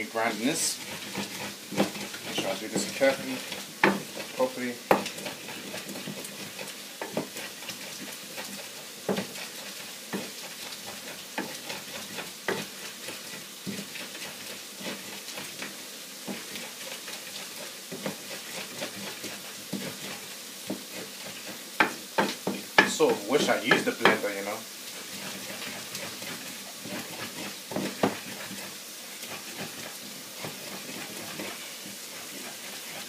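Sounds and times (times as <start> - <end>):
food frying in a pan: 0.0 - 33.0
wooden pestle knocking and scraping: 0.8 - 15.1, 17.9 - 24.3, 25.0 - 28.7, 29.3 - 33.0.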